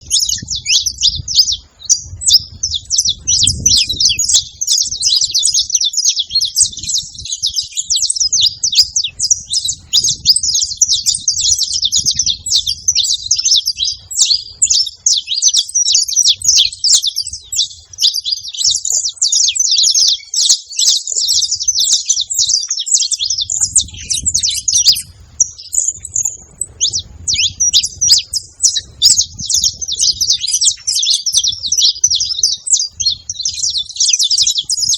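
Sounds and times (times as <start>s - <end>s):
finches chirping: 0.0s - 34.9s.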